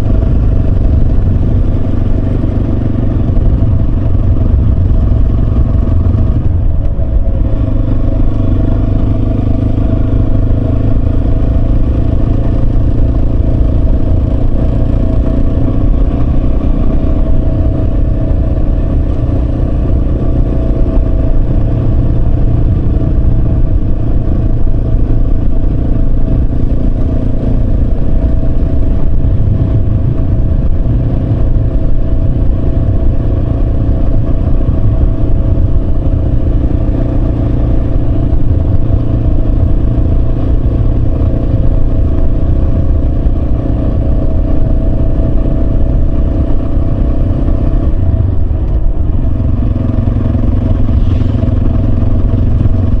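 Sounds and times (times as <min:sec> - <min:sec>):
low rumble: 0:00.0 - 0:53.0
motorcycle engine running: 0:00.0 - 0:53.0.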